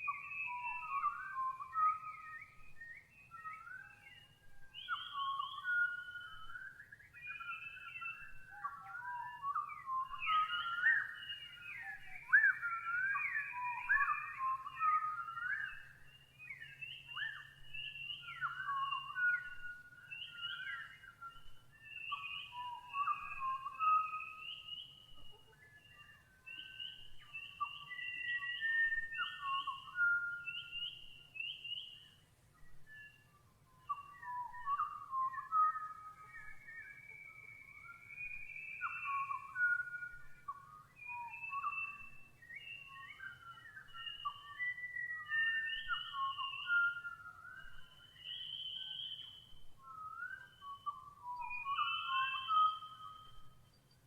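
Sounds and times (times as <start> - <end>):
birds singing: 0.0 - 54.0.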